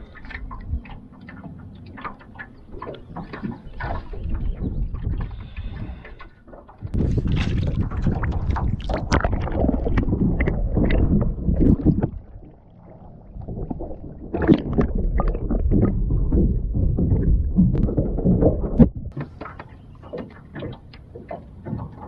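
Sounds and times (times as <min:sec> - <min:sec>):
water splashing against boat hull: 0:00.0 - 0:22.0.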